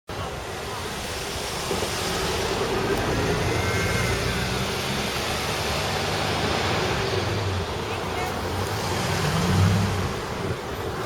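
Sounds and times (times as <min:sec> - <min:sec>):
street traffic noise: 0:00.1 - 0:11.0.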